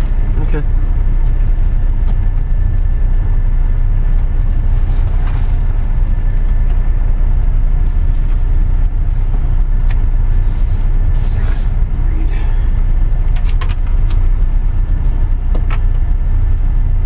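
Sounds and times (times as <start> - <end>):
boat engine and hull rumble: 0.0 - 17.0.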